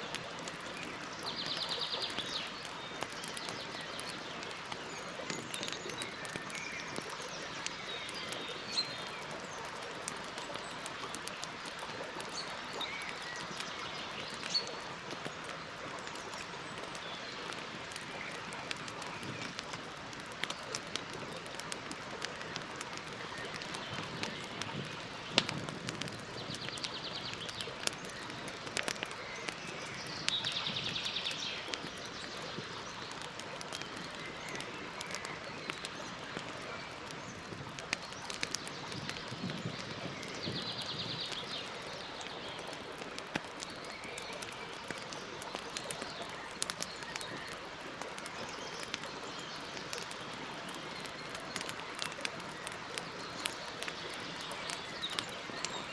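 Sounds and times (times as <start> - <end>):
campfire crackling and hissing: 0.0 - 55.9.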